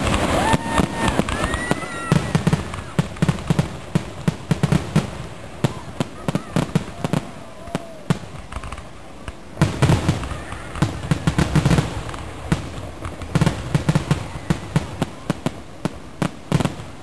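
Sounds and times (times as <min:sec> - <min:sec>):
firework shells bursting: 0:00.0 - 0:16.7.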